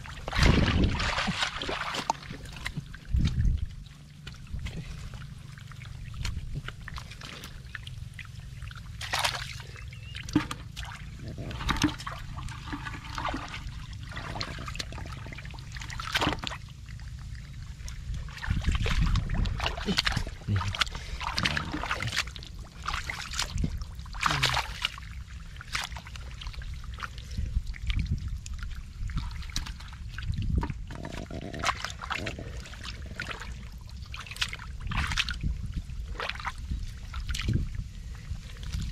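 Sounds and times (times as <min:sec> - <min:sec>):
hands squelching in mud: 0:00.0 - 0:16.7, 0:17.9 - 0:38.9
steady low rumble: 0:00.0 - 0:38.9
water dripping and trickling: 0:00.0 - 0:38.9.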